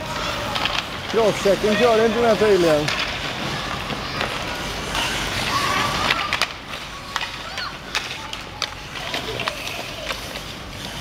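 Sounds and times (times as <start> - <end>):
hockey sticks and pucks clacking: 0.0 - 11.0
skates scraping ice: 0.0 - 11.0.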